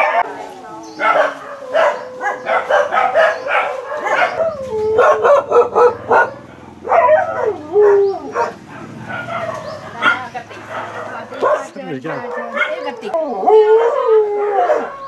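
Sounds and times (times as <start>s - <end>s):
dog howling: 0.0s - 15.0s
dogs barking excitedly: 0.0s - 15.0s.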